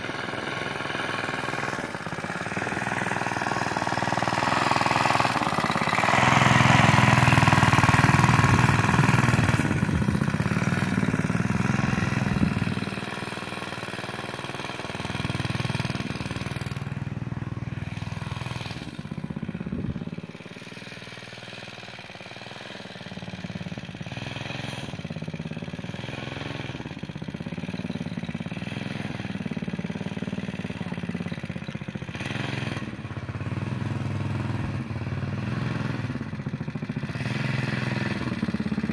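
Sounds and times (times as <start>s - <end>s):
mini bike engine running: 0.0s - 38.9s.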